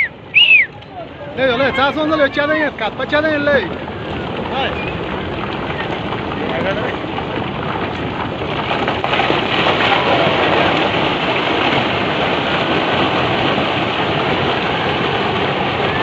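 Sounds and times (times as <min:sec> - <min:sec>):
rocks tumbling and grinding: 0:02.6 - 0:16.0.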